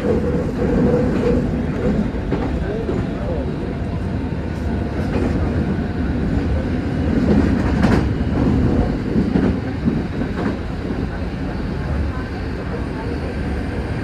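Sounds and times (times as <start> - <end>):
train rumble inside carriage: 0.0 - 14.0.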